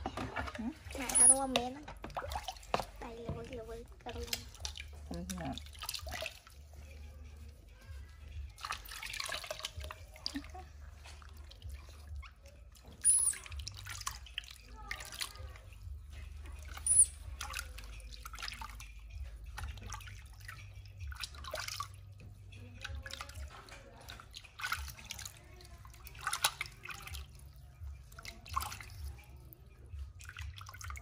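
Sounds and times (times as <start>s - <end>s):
water splashing in a plastic tub: 0.0s - 31.0s.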